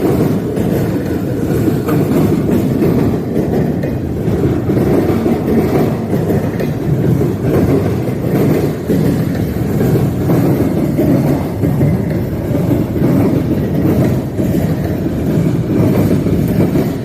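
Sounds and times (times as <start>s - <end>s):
freight train cars rumbling: 0.0s - 17.0s.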